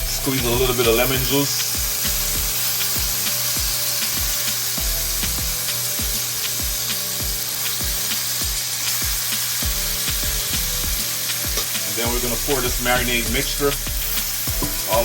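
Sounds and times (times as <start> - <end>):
background music with bass beat: 0.0 - 8.6, 9.6 - 15.0
chicken sizzling in a skillet: 0.0 - 15.0.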